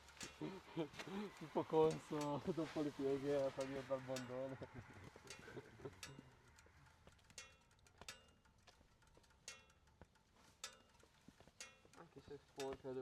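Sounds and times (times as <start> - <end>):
faint metallic ticks: 0.0 - 13.0.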